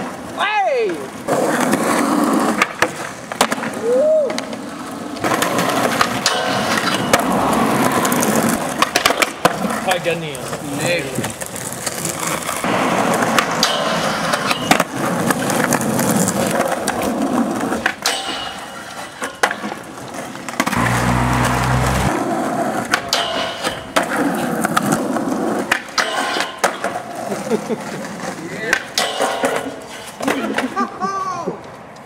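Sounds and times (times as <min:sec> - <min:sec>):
skateboard clacks: 0:00.0 - 0:21.4, 0:22.1 - 0:32.0
skateboard wheels rolling on asphalt: 0:00.0 - 0:32.0.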